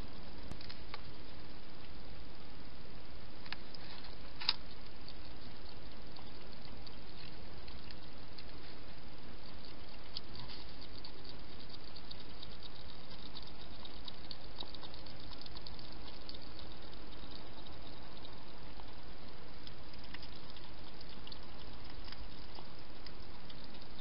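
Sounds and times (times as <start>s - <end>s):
microphone hiss: 0.0s - 24.0s
hedgehog chewing smacking clicks: 3.5s - 24.0s.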